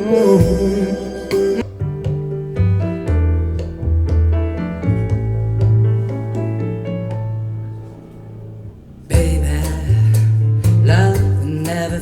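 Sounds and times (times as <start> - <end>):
piano chords over bass note: 0.0 - 12.0.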